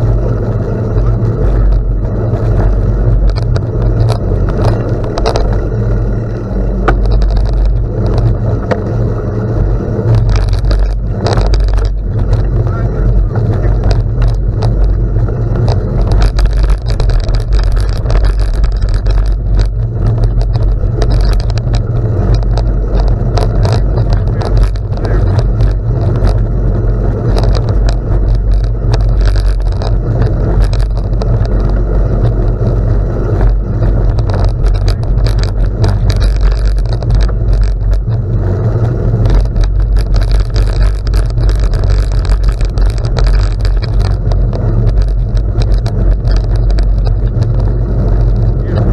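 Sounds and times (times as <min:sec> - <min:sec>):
tyres crunching on gravel: 0:00.0 - 0:48.9
wind rumble on microphone: 0:00.0 - 0:48.9.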